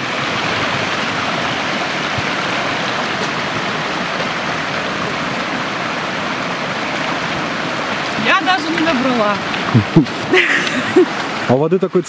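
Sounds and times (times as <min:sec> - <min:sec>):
stream rushing water: 0:00.0 - 0:12.0.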